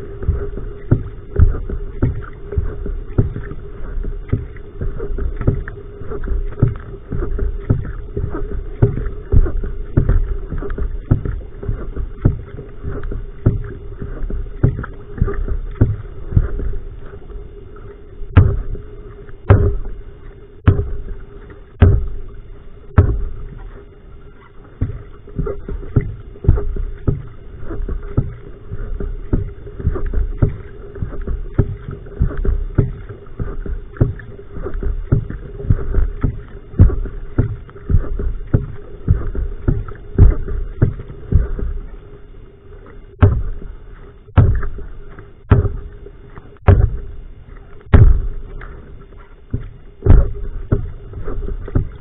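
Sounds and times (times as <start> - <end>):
paddle strokes splashing in water: 0.0 - 52.0.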